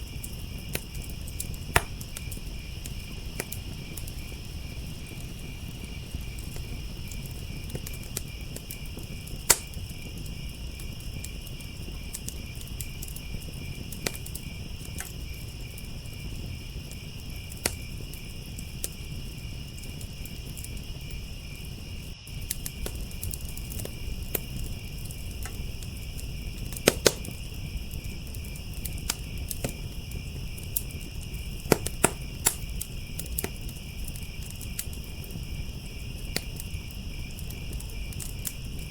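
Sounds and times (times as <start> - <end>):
crickets trilling: 0.0 - 38.9
wood fire crackling and popping: 0.0 - 38.9.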